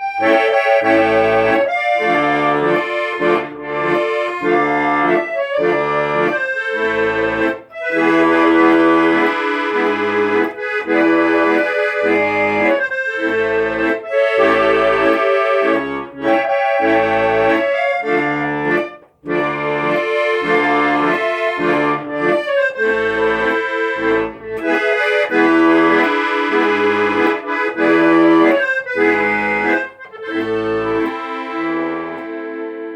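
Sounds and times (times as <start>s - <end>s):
accordion music: 0.0s - 32.9s.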